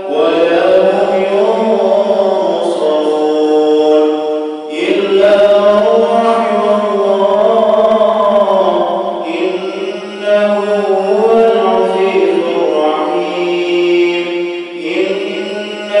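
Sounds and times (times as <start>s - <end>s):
man chanting recitation: 0.0s - 16.0s.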